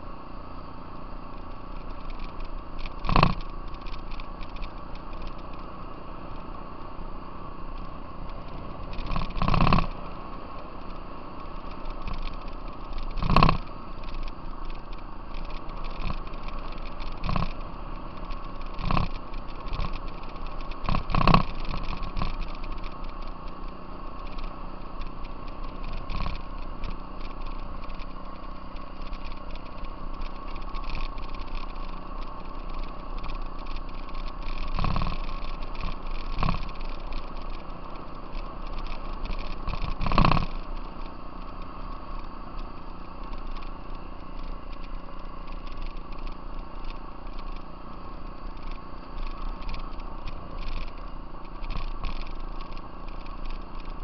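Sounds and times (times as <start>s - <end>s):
constant rattle: 0.0s - 54.0s
vehicle engine running: 0.0s - 54.0s.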